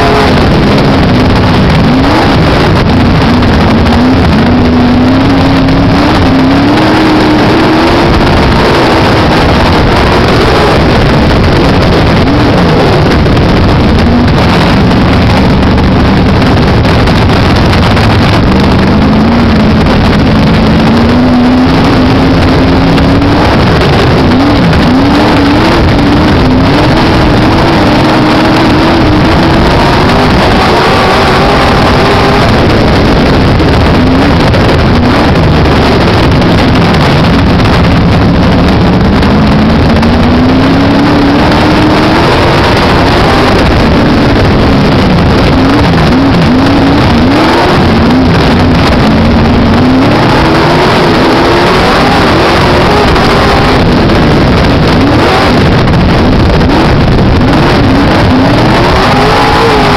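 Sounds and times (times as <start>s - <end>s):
race car engine revving at speed: 0.0s - 59.9s.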